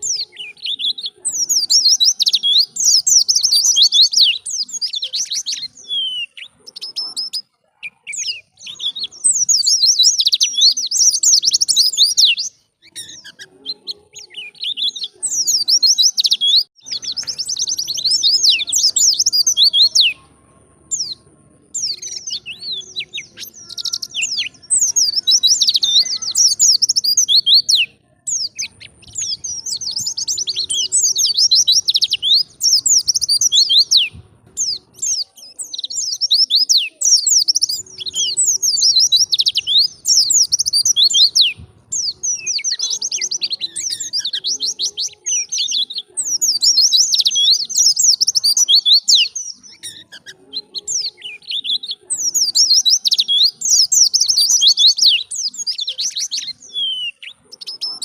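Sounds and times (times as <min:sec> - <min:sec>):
bird twittering: 0:00.0 - 0:20.3, 0:20.9 - 0:57.9.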